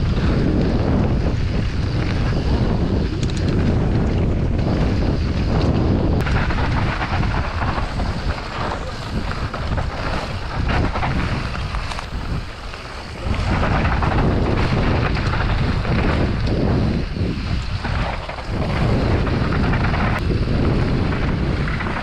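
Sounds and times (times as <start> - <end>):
bike rattling over bumps: 0.0 - 22.0
tyres on dirt: 0.0 - 22.0
wind buffeting microphone: 0.0 - 22.0.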